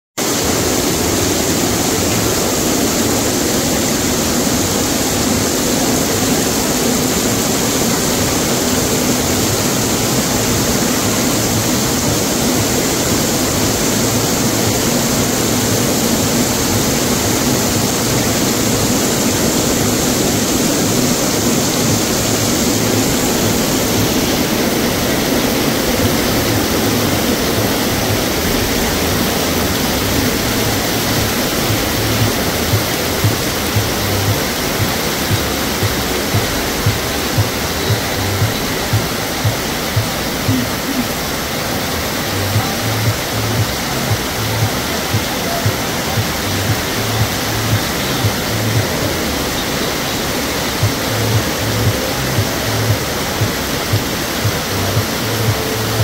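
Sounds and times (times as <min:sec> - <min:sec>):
heavy rain on cobblestones: 0:00.2 - 0:56.0.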